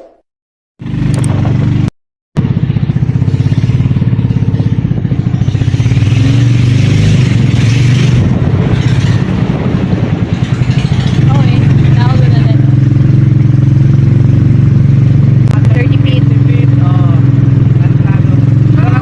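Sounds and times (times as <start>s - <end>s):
small engine running: 0.8s - 19.0s.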